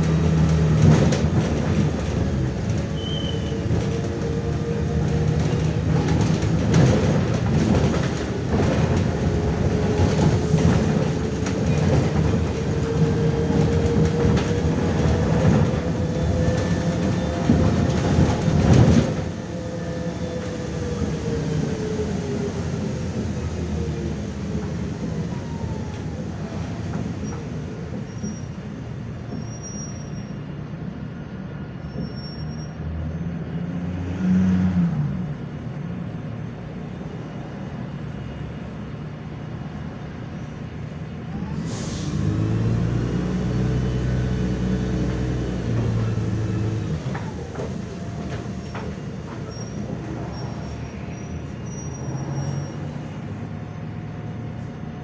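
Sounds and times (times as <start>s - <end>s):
bus diesel engine running: 0.0s - 29.3s, 36.7s - 55.0s
bus cabin rumble: 0.0s - 31.6s, 38.6s - 55.0s.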